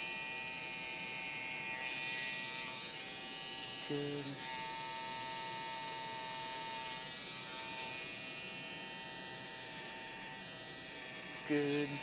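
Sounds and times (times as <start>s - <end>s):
electric hair trimmer buzzing: 0.0s - 12.0s.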